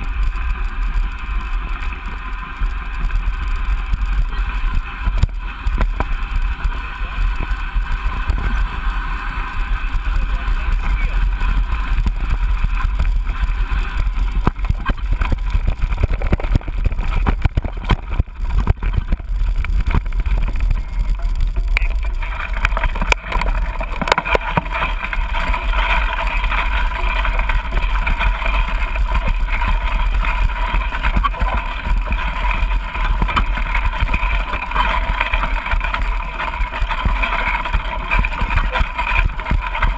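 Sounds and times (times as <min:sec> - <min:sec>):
bike rattles and knocks: 0:00.0 - 0:39.9
bike tyre noise on dirt: 0:00.0 - 0:39.9
wind rumbling on microphone: 0:00.0 - 0:39.9.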